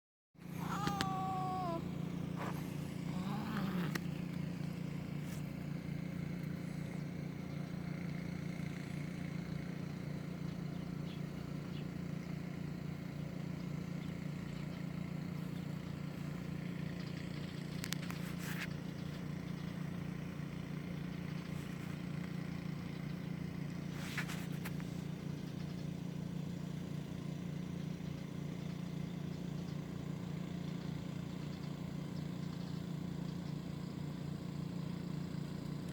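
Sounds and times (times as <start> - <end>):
low mechanical hum: 0.4 - 35.9.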